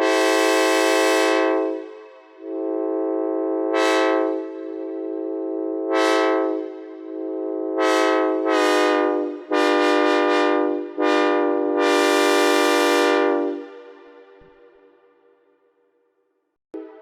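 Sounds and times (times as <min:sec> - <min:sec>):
locomotive air horn chord: 0:00.0 - 0:15.0, 0:16.8 - 0:17.0.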